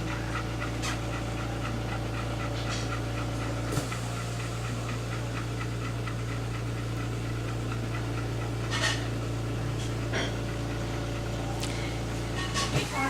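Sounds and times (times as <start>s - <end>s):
dog panting softly: 0.0s - 13.0s
steady low hum: 0.0s - 13.0s.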